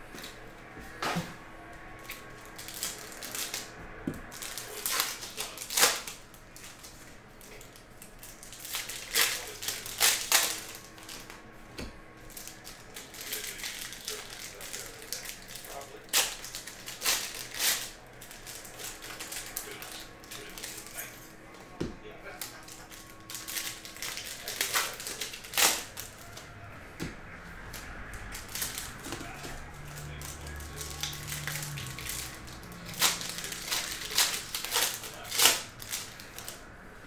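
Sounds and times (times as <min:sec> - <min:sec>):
foil packs crinkling and ripping: 0:02.0 - 0:03.7, 0:04.3 - 0:11.3, 0:12.3 - 0:21.2, 0:22.3 - 0:26.5, 0:27.7 - 0:36.6.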